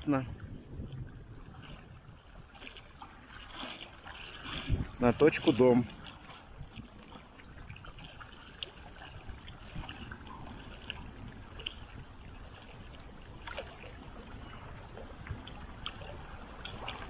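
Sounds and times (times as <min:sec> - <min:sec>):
waves lapping against rocks: 0:00.0 - 0:17.0
wind rumble on microphone: 0:00.0 - 0:17.0.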